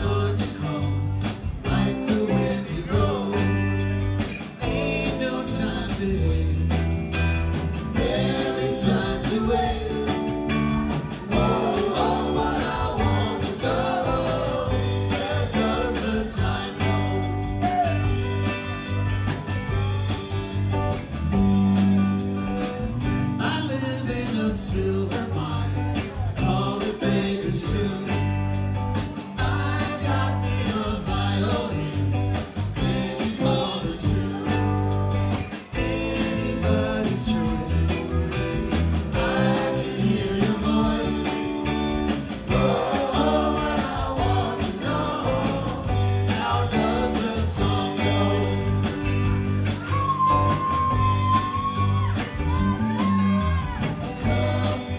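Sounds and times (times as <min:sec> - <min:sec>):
person singing: 0:00.0 - 0:03.8, 0:04.6 - 0:06.8, 0:08.0 - 0:10.6, 0:11.2 - 0:20.7, 0:23.4 - 0:28.4, 0:32.8 - 0:38.4, 0:39.1 - 0:54.9
drum kit: 0:00.0 - 0:54.9
electric bass: 0:00.0 - 0:54.9
electric guitar: 0:00.0 - 0:54.9.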